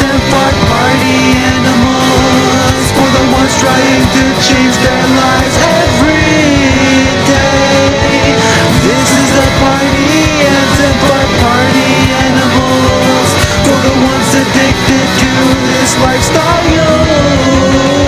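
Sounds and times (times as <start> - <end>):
rock music led by guitars: 0.0 - 18.0.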